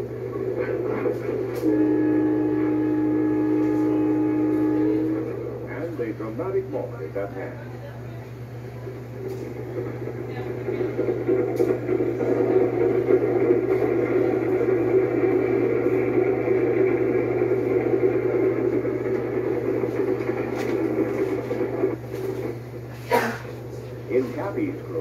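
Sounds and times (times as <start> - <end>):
constant low hum: 0.0 - 25.0
train rumbling at speed: 0.0 - 25.0.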